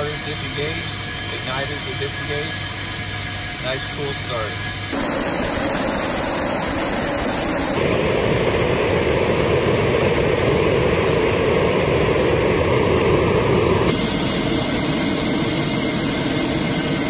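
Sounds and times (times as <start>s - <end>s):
jet engine running: 0.0s - 17.0s
thin high whine: 0.0s - 17.0s.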